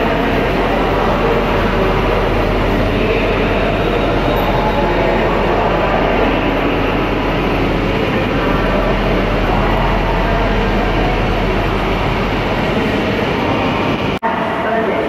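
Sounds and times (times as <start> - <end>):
electric train running slowly: 0.0 - 15.0.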